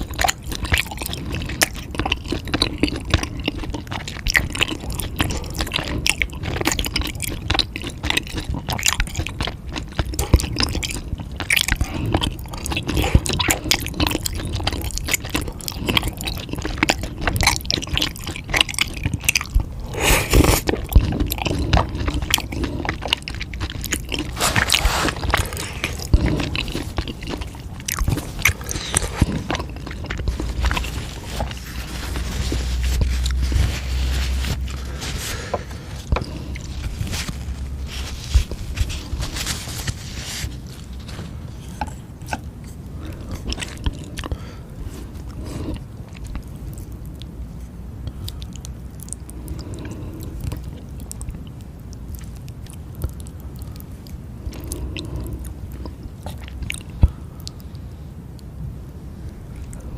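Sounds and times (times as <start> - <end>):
chewing and crunching food: 0.0 - 59.9
wet squishing mouth sounds: 0.0 - 59.9.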